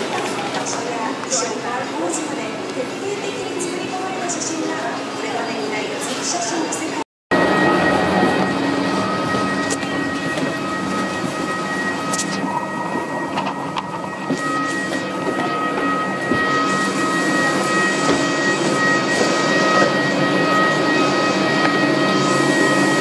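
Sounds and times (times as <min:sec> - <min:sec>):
high-pitched machinery whines: 0:00.0 - 0:23.0.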